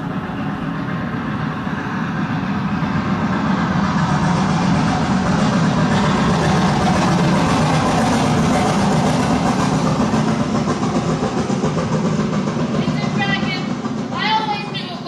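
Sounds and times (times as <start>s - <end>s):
steam train rumbling through tunnel: 0.0s - 15.0s.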